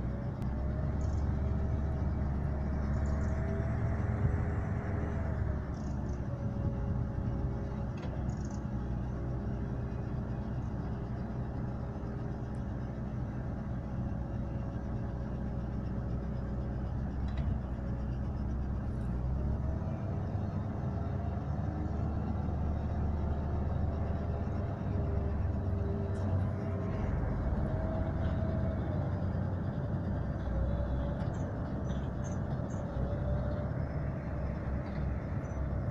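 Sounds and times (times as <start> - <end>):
excavator engine rumbling: 0.0 - 35.9.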